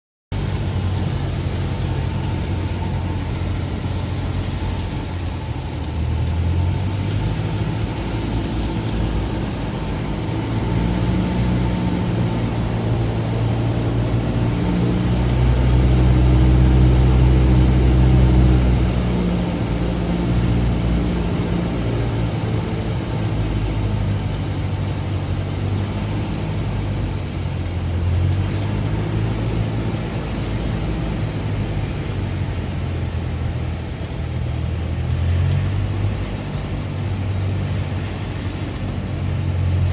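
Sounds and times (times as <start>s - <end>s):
light aircraft engine and propeller: 0.3s - 39.9s.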